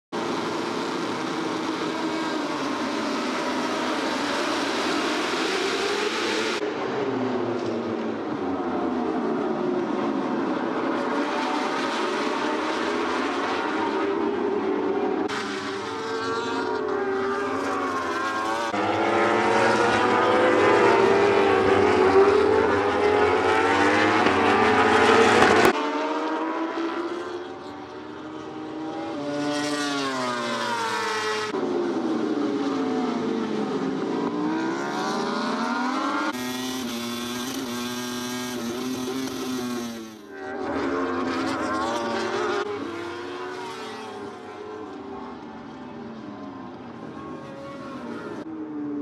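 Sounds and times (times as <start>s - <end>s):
racing motorcycles passing: 0.2s - 49.0s.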